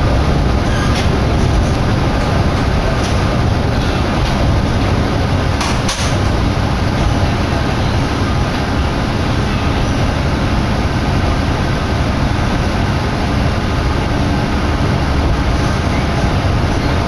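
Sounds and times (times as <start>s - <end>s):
diesel railcar rumble: 0.0s - 17.0s.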